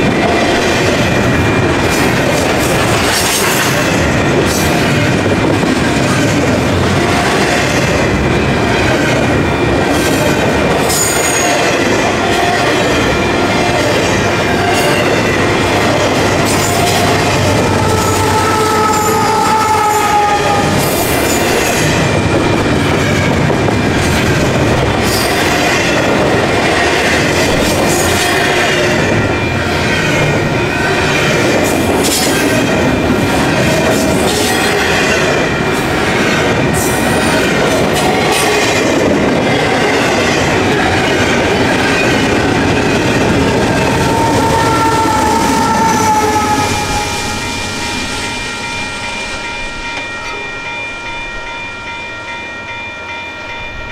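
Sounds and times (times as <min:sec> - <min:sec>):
train wheel rumble: 0:00.0 - 0:53.9.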